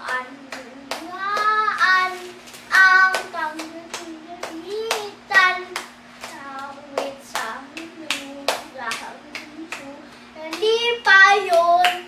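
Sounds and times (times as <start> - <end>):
child clapping hands: 0.0 - 2.1, 2.8 - 12.0
child singing: 0.0 - 12.0.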